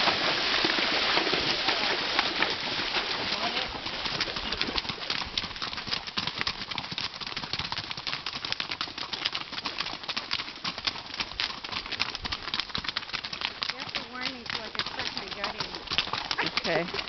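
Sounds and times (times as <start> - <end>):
horse hooves clip-clopping on stony trail: 0.0 - 17.0.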